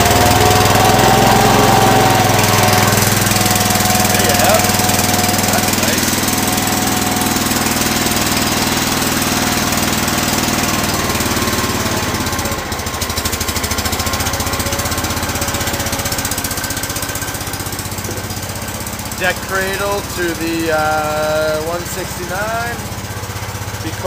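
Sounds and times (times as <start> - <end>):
garden tractor engine running: 0.0 - 24.0.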